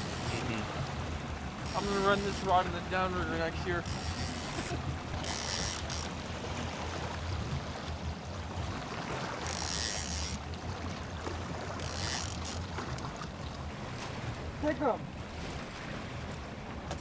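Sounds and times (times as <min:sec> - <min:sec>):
boat engine humming: 0:00.0 - 0:17.0
water wash and splashing: 0:00.0 - 0:17.0.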